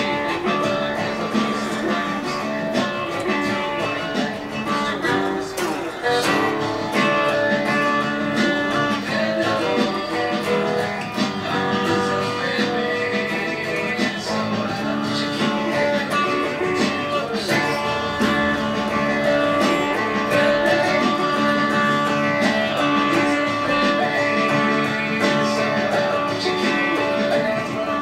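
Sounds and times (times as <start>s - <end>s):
archtop guitar strummed and picked: 0.0s - 28.0s.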